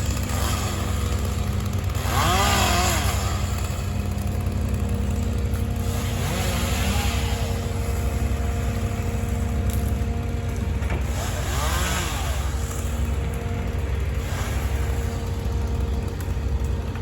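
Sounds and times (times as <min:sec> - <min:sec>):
chainsaw revving: 0:00.0 - 0:17.0
truck engine droning: 0:00.0 - 0:17.0.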